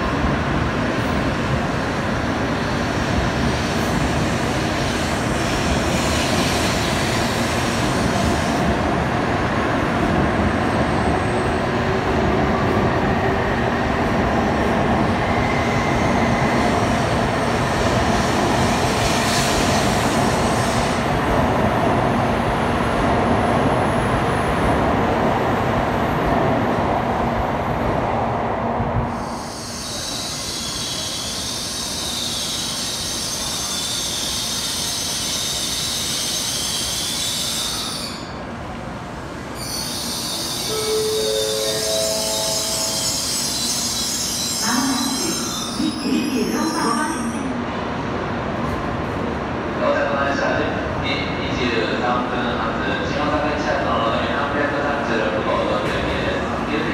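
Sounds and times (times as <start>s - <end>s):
high hiss of arriving train: 1.2s - 8.9s, 9.9s - 21.3s, 28.8s - 56.9s.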